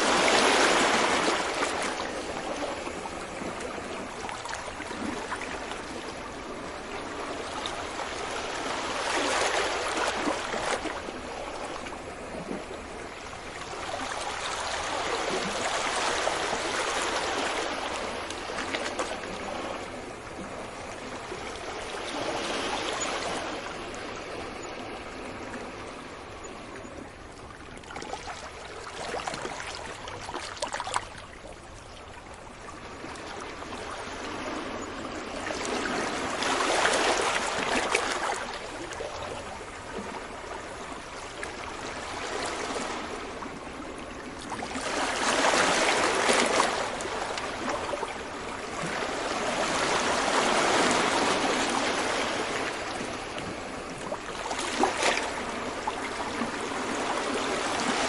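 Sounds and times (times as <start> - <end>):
ocean waves breaking gently: 0.0 - 58.0.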